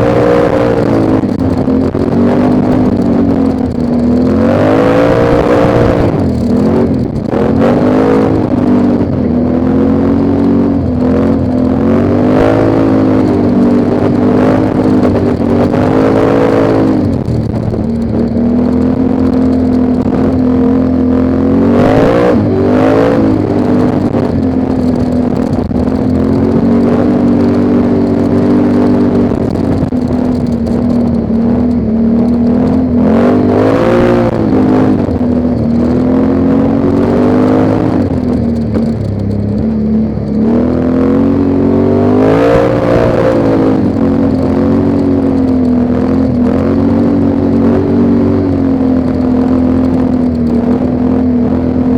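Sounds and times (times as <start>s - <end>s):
atv engine rising and falling: 0.0s - 51.9s.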